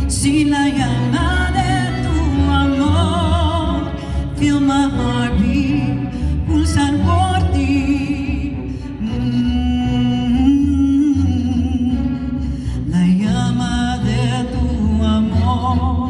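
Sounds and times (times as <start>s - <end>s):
pulsing bass line: 0.0s - 16.0s
string ensemble: 0.0s - 16.0s.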